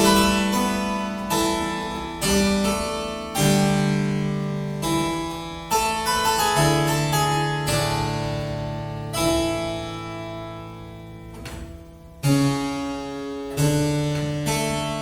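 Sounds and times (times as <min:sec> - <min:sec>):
harpsichord playing chords: 0:00.0 - 0:15.0.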